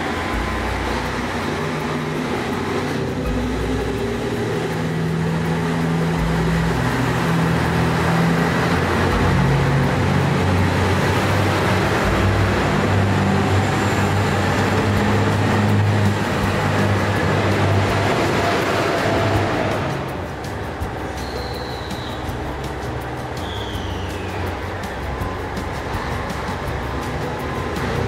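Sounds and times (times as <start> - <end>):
train running: 0.0 - 28.0.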